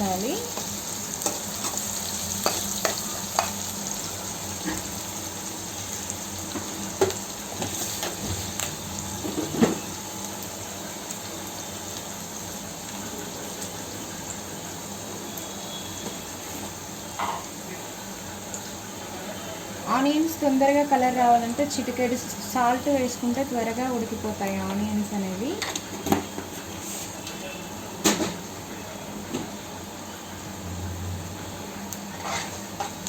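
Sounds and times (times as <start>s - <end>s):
onions sizzling in hot oil: 0.0s - 33.0s.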